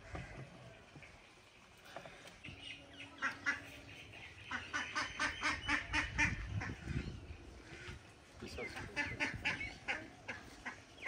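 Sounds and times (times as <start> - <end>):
bird calling: 1.8 - 11.0.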